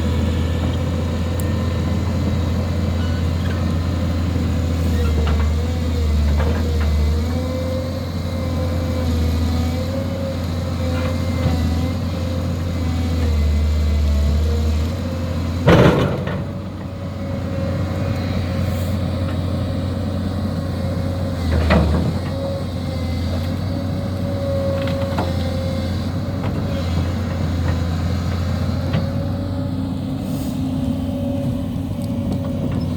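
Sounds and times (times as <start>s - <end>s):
heavy machine engine running: 0.0s - 32.9s.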